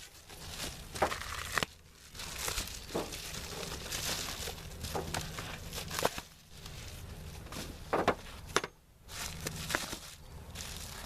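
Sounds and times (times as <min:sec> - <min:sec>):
covering crinkling and rustling: 0:00.0 - 0:11.0.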